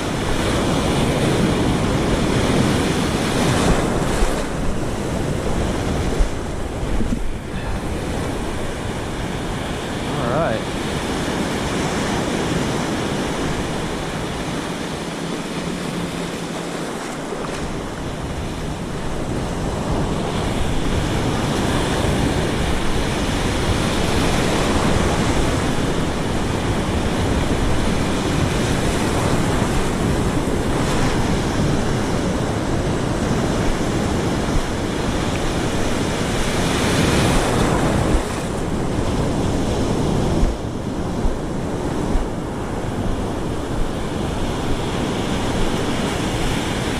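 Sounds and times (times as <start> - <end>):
ocean surf breaking: 0.0 - 46.9
wind rumbling on microphone: 0.0 - 46.9.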